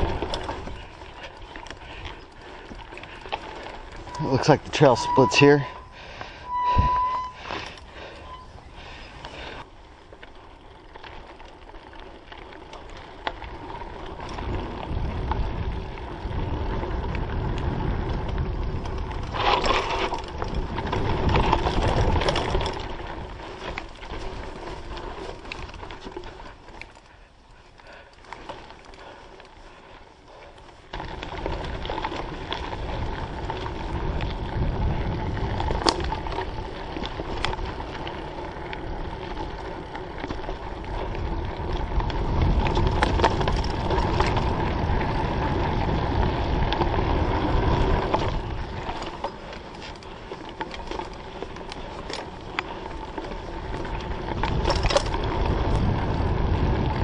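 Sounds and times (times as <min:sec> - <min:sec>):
mountain bike rumbling and rattling: 0:00.0 - 0:57.0.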